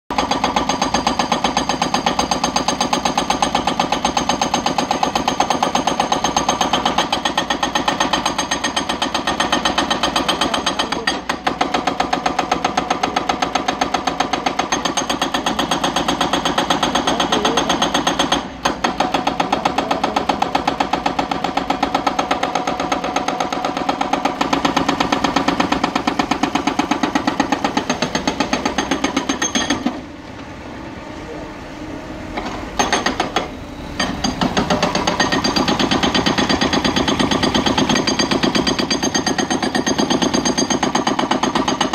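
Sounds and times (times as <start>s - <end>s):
hydraulic rock breaker hammering: 0.1s - 30.4s, 32.3s - 41.9s.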